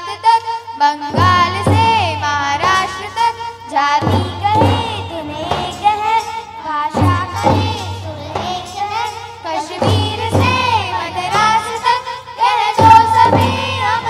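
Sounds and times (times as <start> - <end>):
children singing: 0.0 - 14.0
heavy drum beats: 1.0 - 14.0
school band drums and keyboard: 1.0 - 14.0.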